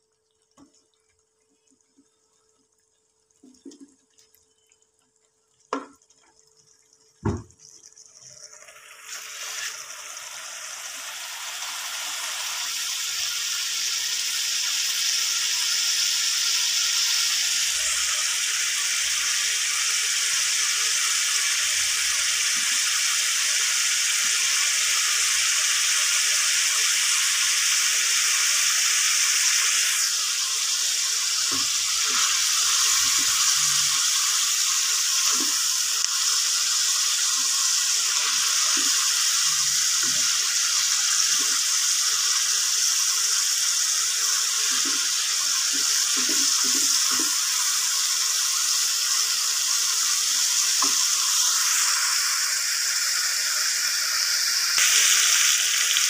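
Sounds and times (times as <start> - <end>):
gravy sizzling in a pan: 0.0 - 56.0.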